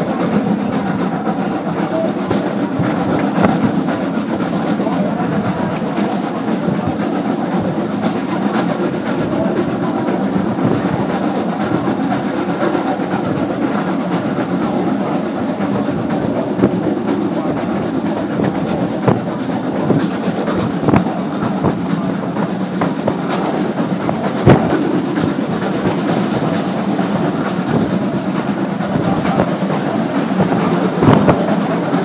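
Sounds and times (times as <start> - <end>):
train car rumble: 0.0 - 32.0.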